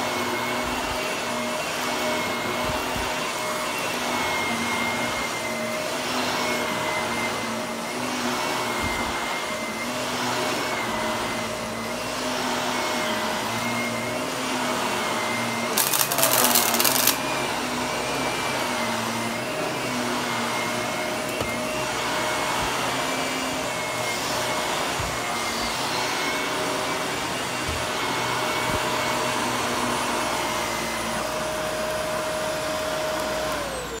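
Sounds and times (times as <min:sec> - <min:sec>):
vacuum cleaner running on carpet: 0:00.0 - 0:34.0.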